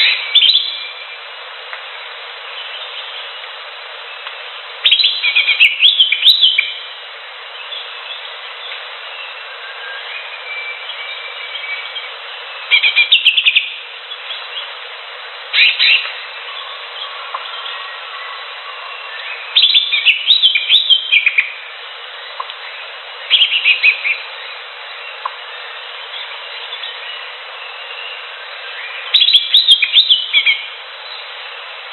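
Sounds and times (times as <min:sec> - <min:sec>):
background hiss: 0:00.0 - 0:31.9.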